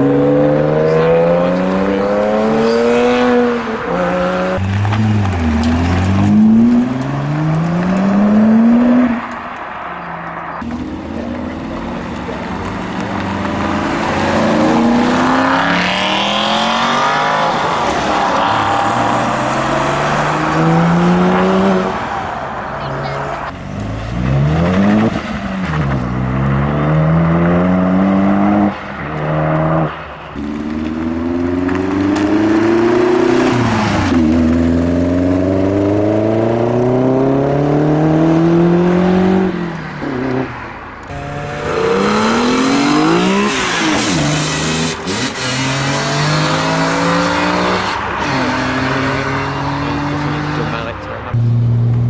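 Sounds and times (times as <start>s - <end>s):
cars accelerating hard: 0.0s - 52.0s.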